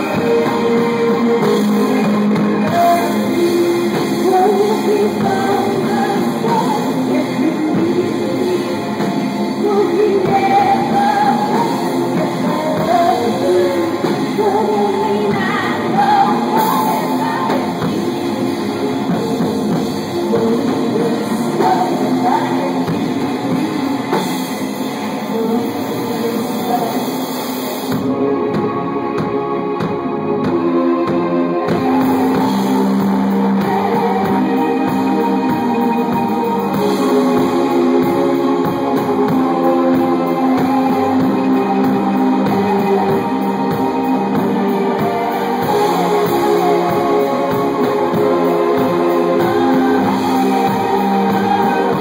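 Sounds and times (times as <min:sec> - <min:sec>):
woman singing: 0:00.0 - 0:18.0, 0:19.1 - 0:23.7, 0:25.1 - 0:27.3, 0:30.4 - 0:52.0
drums: 0:00.0 - 0:52.0
synthesizer keyboards: 0:00.0 - 0:52.0.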